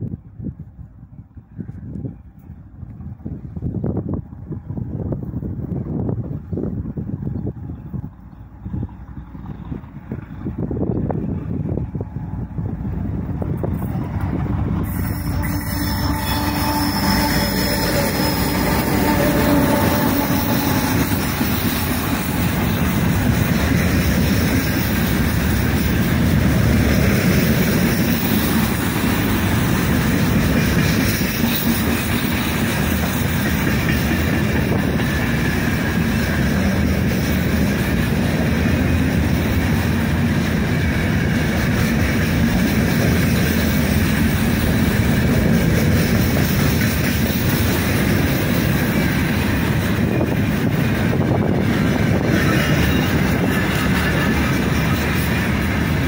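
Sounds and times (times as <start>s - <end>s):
diesel locomotive accelerating: 0.0s - 56.0s.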